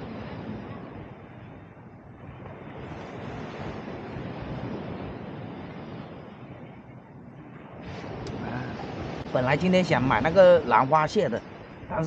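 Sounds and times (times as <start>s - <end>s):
surf: 0.0s - 12.0s
wind: 0.0s - 12.0s.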